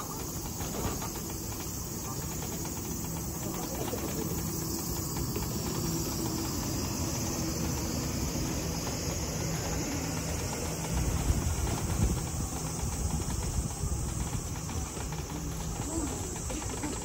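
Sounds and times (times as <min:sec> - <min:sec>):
cicadas chorus: 0:00.0 - 0:17.0
electric wheelchair rumbling: 0:00.0 - 0:17.0.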